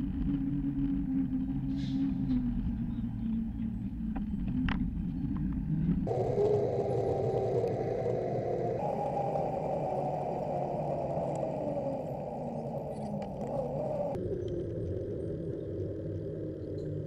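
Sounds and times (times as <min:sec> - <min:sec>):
bicycle road noise: 0:00.0 - 0:17.0
wind noise: 0:00.0 - 0:17.0.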